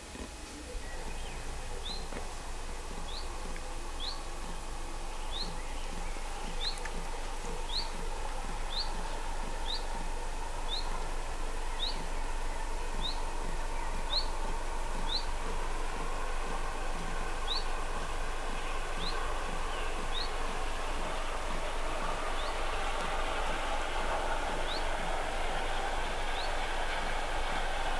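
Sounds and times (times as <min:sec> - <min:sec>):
distant steam train: 0:00.0 - 0:27.9
outdoor background noise: 0:00.0 - 0:27.9.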